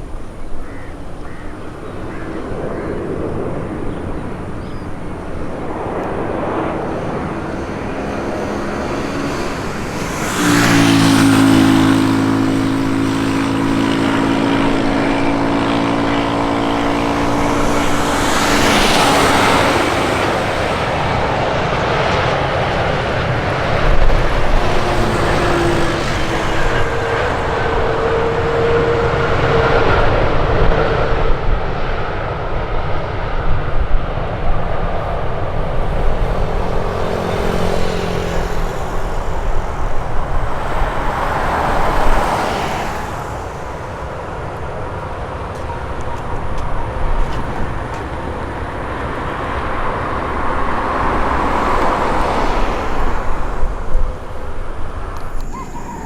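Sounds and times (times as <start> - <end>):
jet aircraft engine: 0.0 - 56.0
traffic noise: 0.0 - 56.0.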